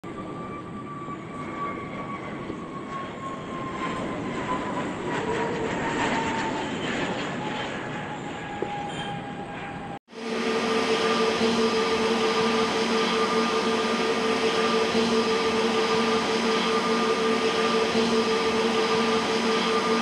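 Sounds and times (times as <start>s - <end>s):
jet engines rushing with whine: 0.1s - 20.0s.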